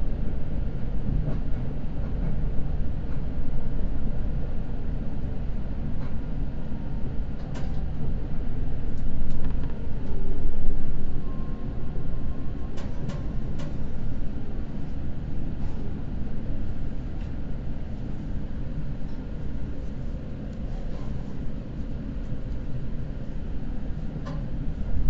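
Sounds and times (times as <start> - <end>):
train running low rumble: 0.0 - 25.0.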